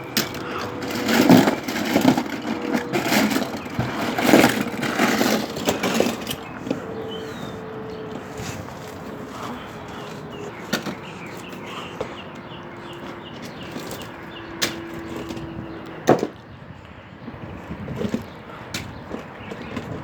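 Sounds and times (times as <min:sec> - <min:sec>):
distant engine droning: 0:00.0 - 0:20.0
outdoor background noise: 0:00.0 - 0:20.0.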